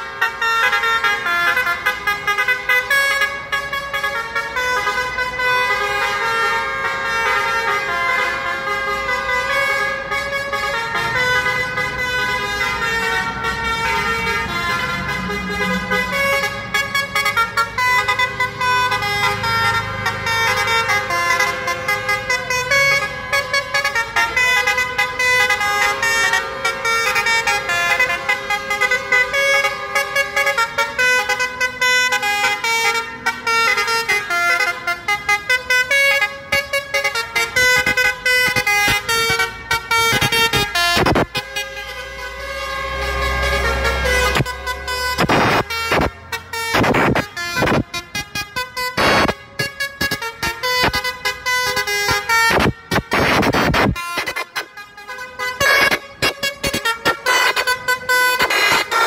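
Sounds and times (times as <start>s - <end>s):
passing traffic: 0.0s - 59.0s
vehicle horns honking: 0.0s - 59.0s.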